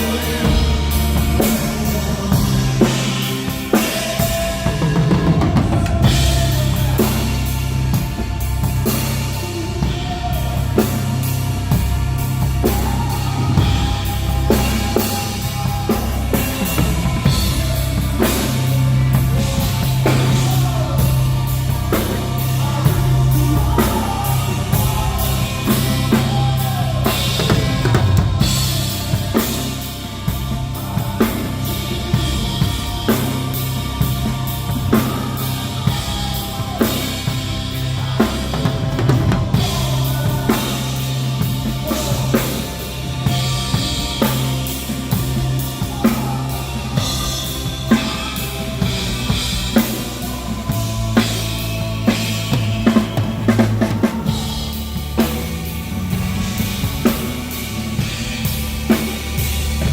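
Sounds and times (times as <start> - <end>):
drum kit beat: 0.0 - 59.9
live rock band playing: 0.0 - 59.9.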